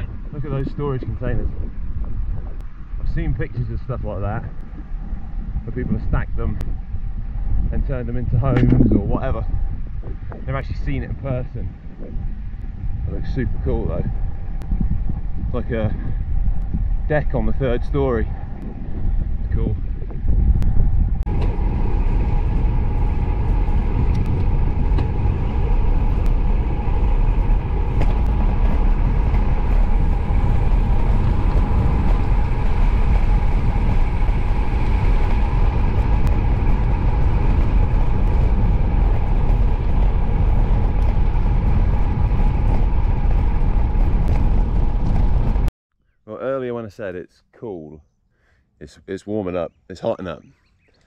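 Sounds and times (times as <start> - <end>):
bike tyres on rough asphalt: 0.0 - 45.7
wind rushing over microphone: 0.0 - 45.7.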